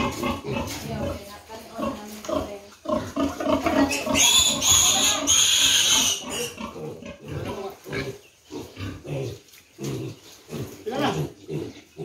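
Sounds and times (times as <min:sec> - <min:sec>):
pigs squealing: 0:00.0 - 0:01.2, 0:01.8 - 0:12.0
pigs grunting: 0:00.0 - 0:12.0.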